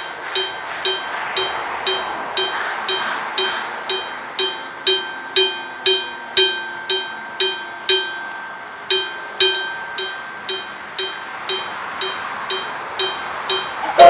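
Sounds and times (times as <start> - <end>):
railway crossing bell ringing: 0.0 - 14.0.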